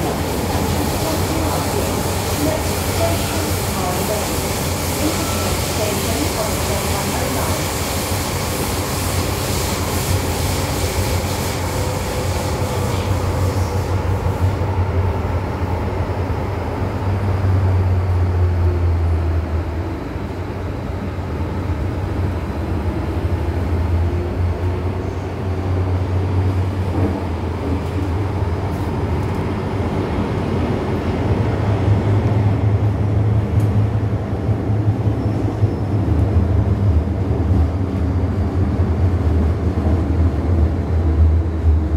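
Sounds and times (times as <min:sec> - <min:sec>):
train wheels rumbling: 0:00.0 - 0:41.9.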